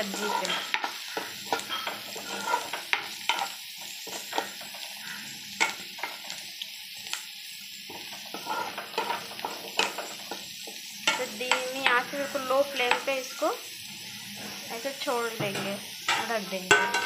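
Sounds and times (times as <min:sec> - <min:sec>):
steel spoon scraping a pan: 0:00.0 - 0:06.4, 0:07.9 - 0:17.0
beans sizzling in oil: 0:00.0 - 0:17.0.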